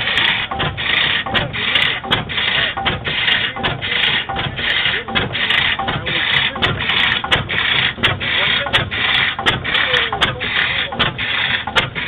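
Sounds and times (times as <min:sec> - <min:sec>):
old engine chuffing: 0:00.0 - 0:12.0.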